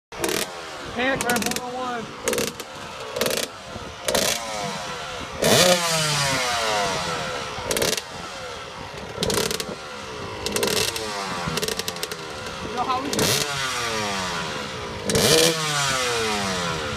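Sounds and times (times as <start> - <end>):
motocross engine revving: 0.1 - 16.9.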